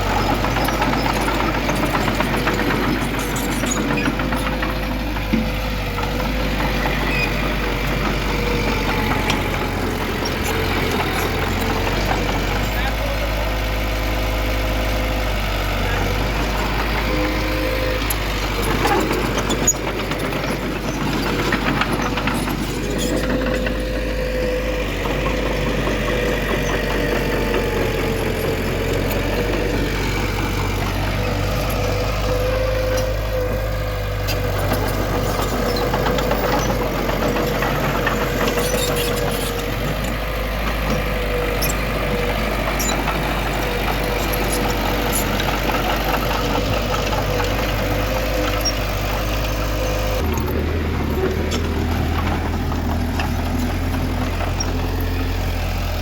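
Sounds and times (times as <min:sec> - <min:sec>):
low diesel drone: 0:00.0 - 0:56.0.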